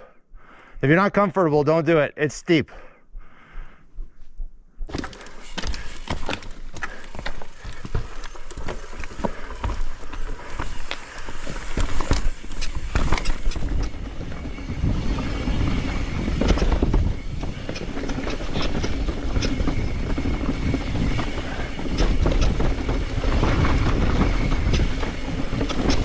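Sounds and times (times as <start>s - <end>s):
bike chain and frame rattling: 4.9s - 26.0s
bike tyres rumbling over dirt: 4.9s - 26.0s.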